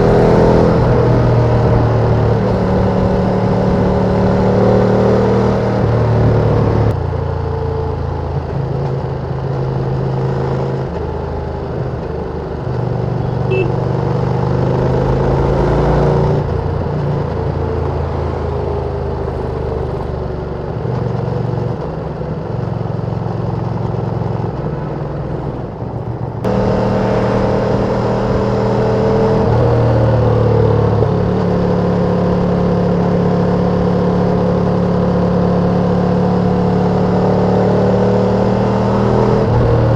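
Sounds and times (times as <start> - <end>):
motorcycle engine revving: 0.0 - 7.0, 8.4 - 39.9.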